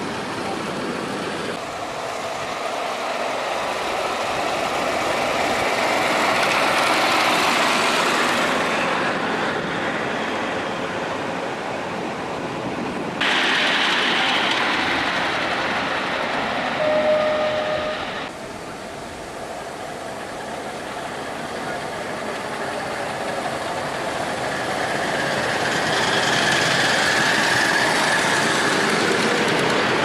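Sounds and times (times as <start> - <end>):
miniature train running on track: 0.0 - 30.0.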